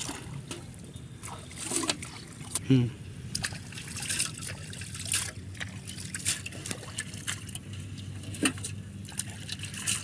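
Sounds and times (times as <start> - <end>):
water splashing: 0.0 - 2.6, 3.3 - 10.0.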